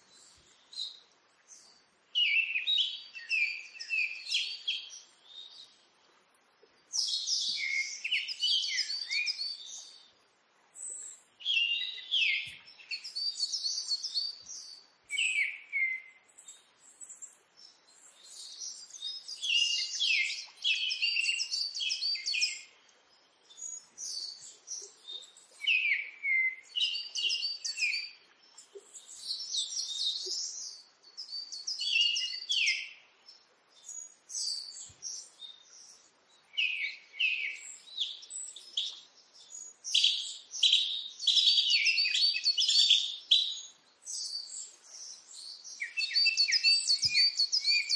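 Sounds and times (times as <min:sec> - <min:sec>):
bird song chirping: 0:00.0 - 0:47.9.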